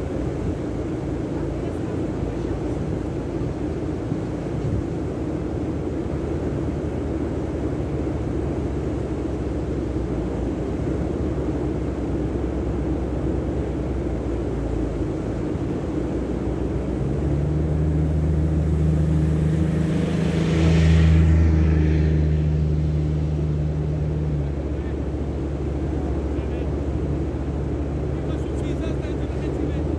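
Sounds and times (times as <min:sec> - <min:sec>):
passing engine drone: 0:00.0 - 0:29.9
surf: 0:00.0 - 0:29.9
wind: 0:00.0 - 0:29.9.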